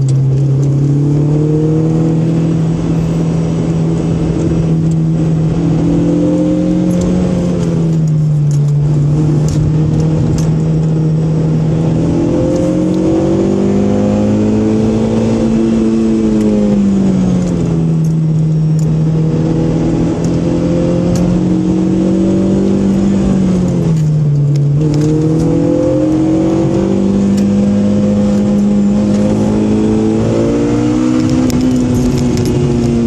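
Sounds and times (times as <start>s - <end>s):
car engine running: 0.0s - 33.0s
tyre and road noise: 0.0s - 33.0s.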